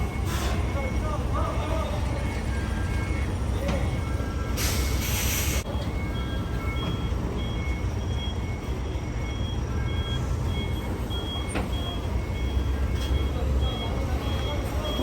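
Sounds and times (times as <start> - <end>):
reversing alarm beeping: 0.0 - 15.0.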